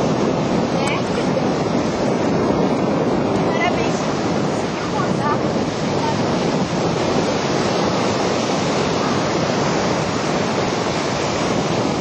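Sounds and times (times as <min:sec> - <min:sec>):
surf breaking on sand: 0:00.0 - 0:12.0
wind buffeting microphone: 0:00.0 - 0:12.0.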